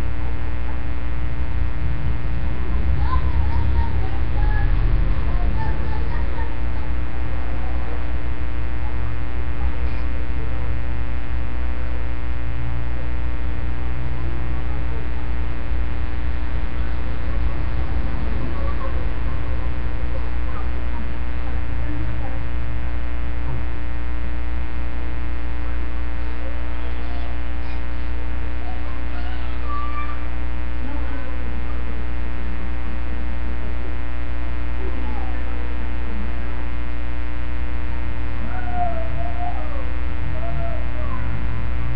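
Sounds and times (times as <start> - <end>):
electrical mains hum: 0.0 - 41.9
faint wavering sounds: 0.0 - 41.9.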